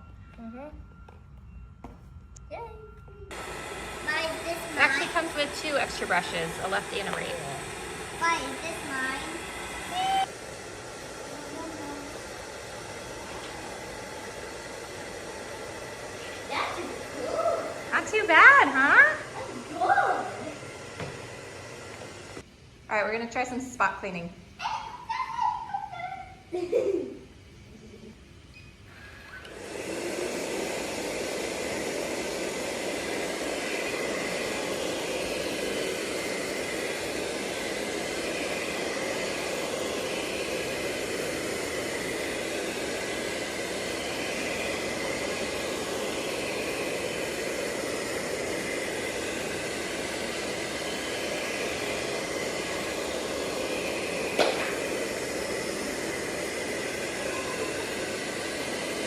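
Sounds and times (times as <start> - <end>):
robot vacuum whirring: 3.3 - 22.4, 29.0 - 59.0.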